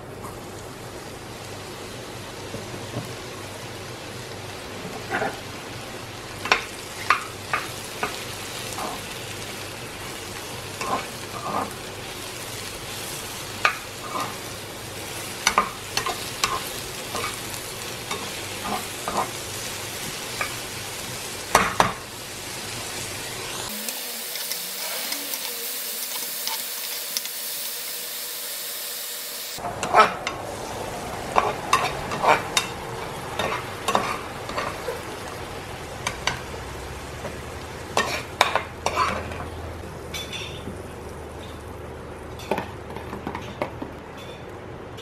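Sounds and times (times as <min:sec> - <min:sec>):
mushrooms sizzling in a frying pan: 0:00.0 - 0:43.9.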